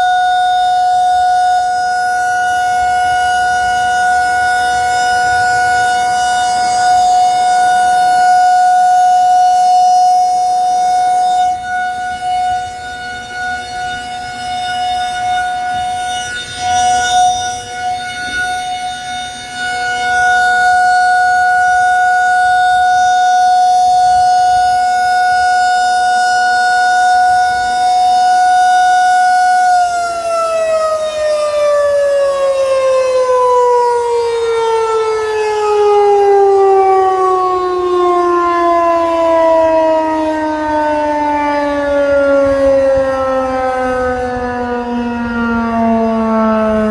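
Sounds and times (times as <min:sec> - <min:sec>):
warning siren held tone: 0:00.0 - 0:46.9.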